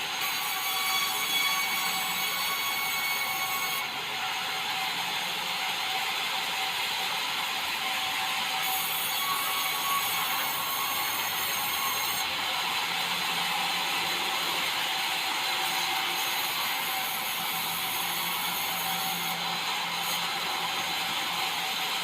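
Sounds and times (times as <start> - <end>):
sawmill saw cutting timber: 0.0 - 22.0.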